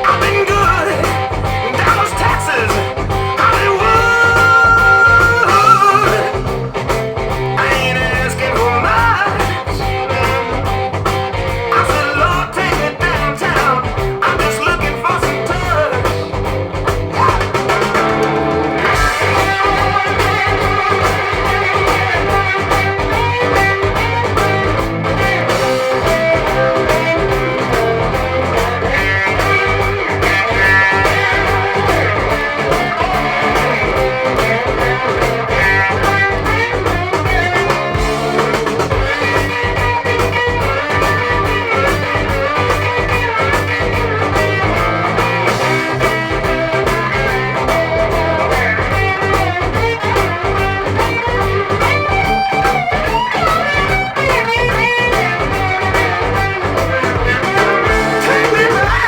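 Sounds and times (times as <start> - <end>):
blues rock with electric guitar: 0.0 - 59.0.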